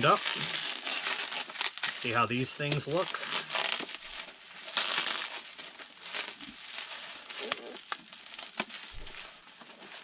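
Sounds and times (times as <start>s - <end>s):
bubble wrap crinkling: 0.0s - 10.0s
sharp crackles: 0.0s - 10.0s.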